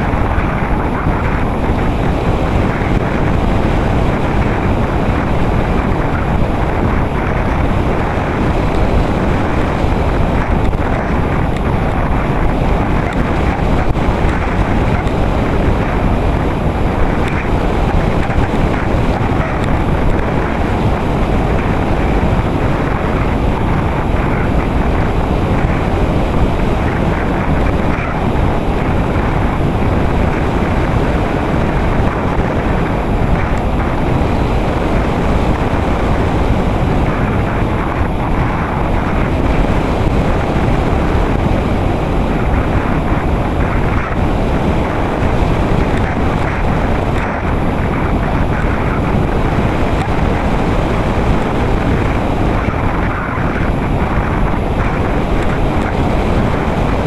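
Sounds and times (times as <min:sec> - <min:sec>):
airflow rushing over microphone: 0:00.0 - 0:57.0
faint high whine: 0:00.0 - 0:57.0.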